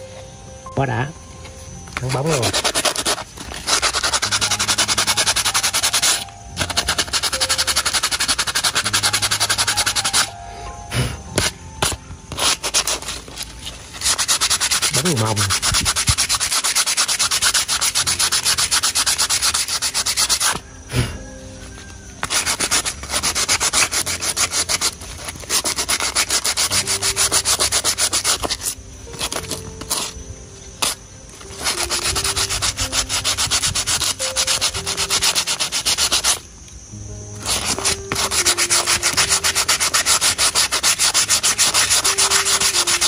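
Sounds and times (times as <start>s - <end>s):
rubbing strokes on coconut shell: 2.0s - 10.4s, 11.0s - 36.5s, 37.4s - 43.0s.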